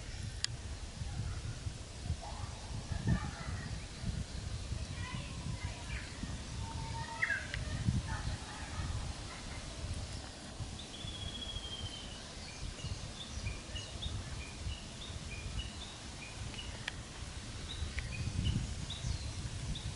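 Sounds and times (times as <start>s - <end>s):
birds chirping: 2.2s - 19.9s.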